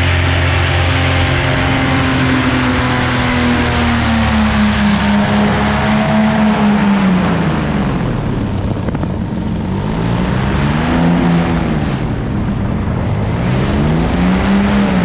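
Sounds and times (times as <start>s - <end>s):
paramotor engine and propeller: 0.0s - 15.0s
wind rushing: 0.1s - 15.0s.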